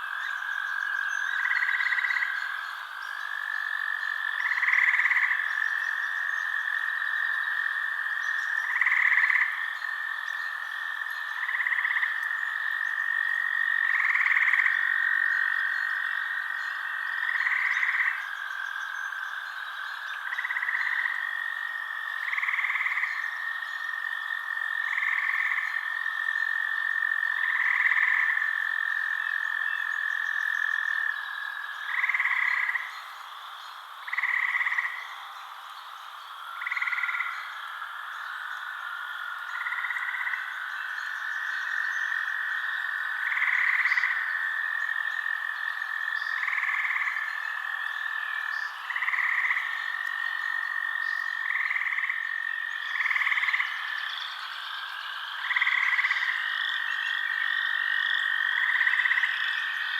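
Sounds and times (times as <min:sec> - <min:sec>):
frogs trilling: 0:00.0 - 0:59.9
loud frog calls: 0:00.0 - 0:59.9.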